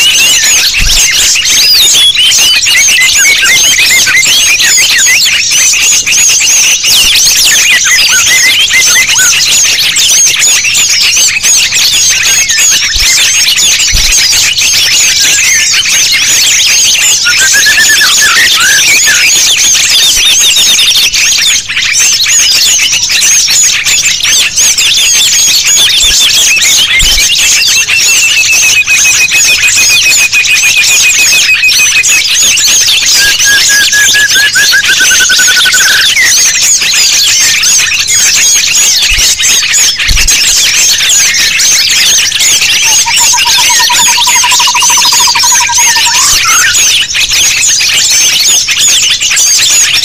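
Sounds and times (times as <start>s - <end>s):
fast bird trill: 0.0s - 50.0s
songbirds chirping: 0.0s - 50.0s.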